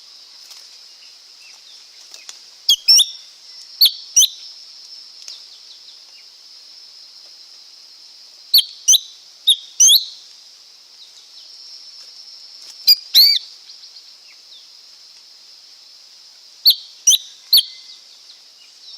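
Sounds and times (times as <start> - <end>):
high-pitched hiss: 0.0 - 18.9.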